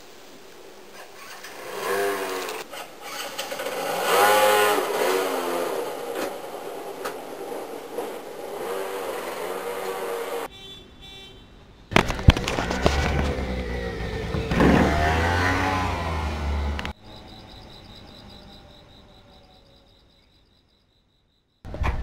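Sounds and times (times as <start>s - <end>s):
faint noise: 0.0s - 22.0s
motorcycle engine rumbling: 0.8s - 10.6s, 11.9s - 19.8s.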